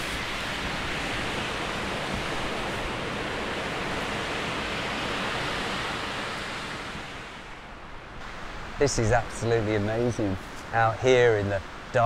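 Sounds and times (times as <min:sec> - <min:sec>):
storm wind rushing through treetops: 0:00.0 - 0:12.0.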